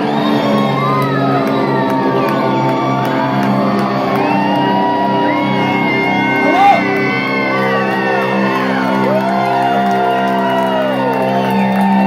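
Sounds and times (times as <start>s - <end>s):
audience shouting and whooping: 0.0s - 12.0s.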